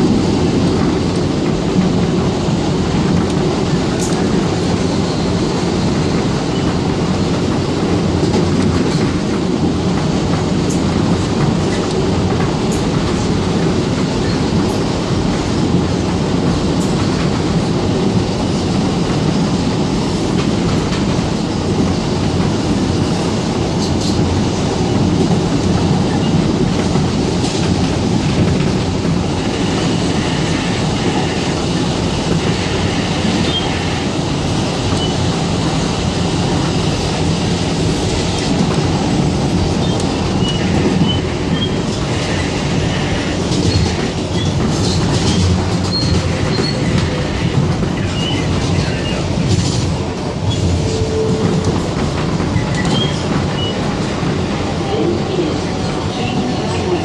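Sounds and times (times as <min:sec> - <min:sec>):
subway wheels rumbling on rails: 0:00.0 - 0:57.0.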